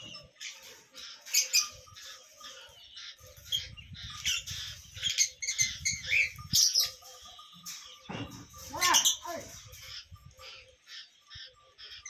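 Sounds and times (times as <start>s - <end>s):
parrots chirping and squawking: 0.0s - 12.0s.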